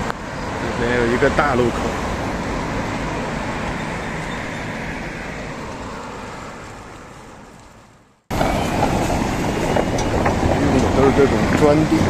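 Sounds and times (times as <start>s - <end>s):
loud outdoor noise: 0.0s - 12.0s
road traffic rumble: 0.0s - 12.0s.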